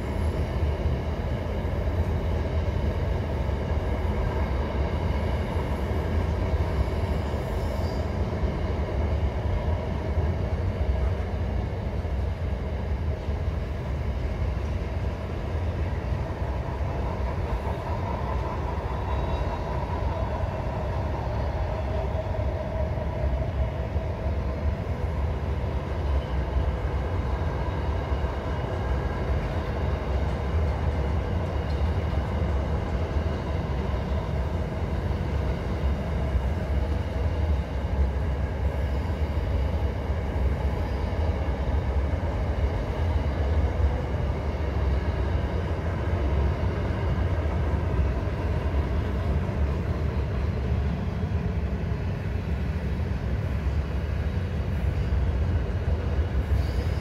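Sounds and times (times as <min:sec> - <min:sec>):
train wagons rumbling over bridge: 0:00.0 - 0:57.0.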